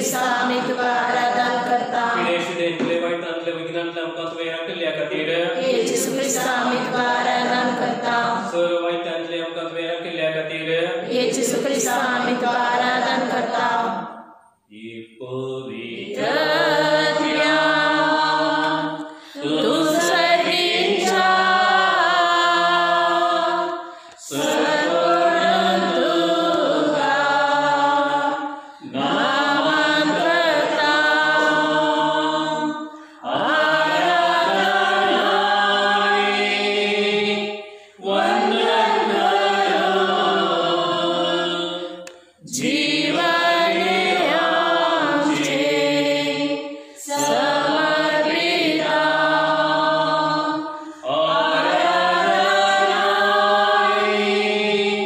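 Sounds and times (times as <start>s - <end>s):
voices chanting a hymn: 0.0s - 55.0s.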